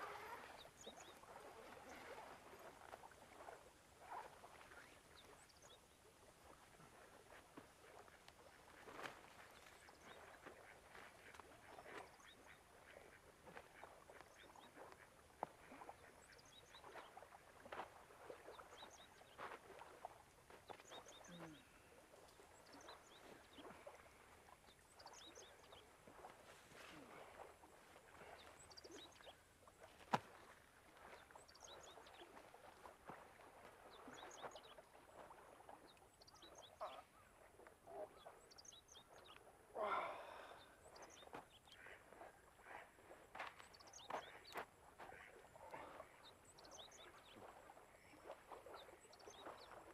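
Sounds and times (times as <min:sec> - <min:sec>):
small water splashes: 0:00.0 - 0:49.9.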